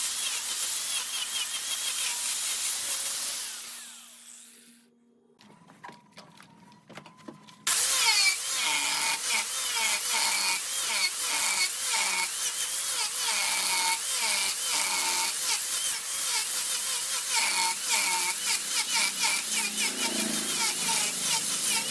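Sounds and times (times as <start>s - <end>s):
wood lathe cutting with screech: 0.0s - 4.6s, 7.7s - 21.9s.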